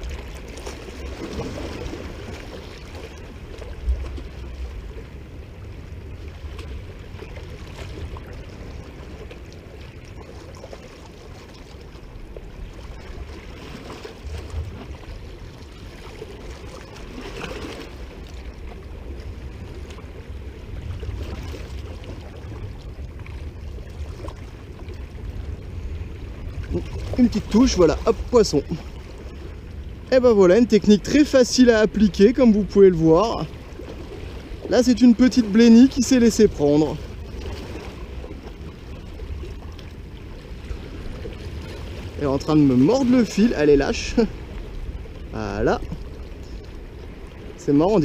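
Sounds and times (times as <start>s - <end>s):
waves lapping against rocks: 0.0s - 48.0s
wind buffeting microphone: 0.0s - 48.0s.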